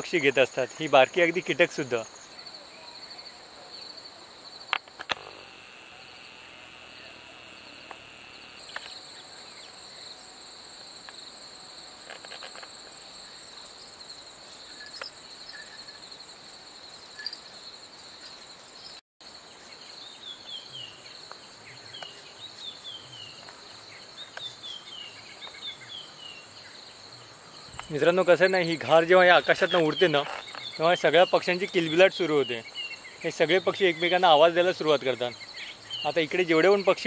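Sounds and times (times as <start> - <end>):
insects trilling: 0.0 - 37.0.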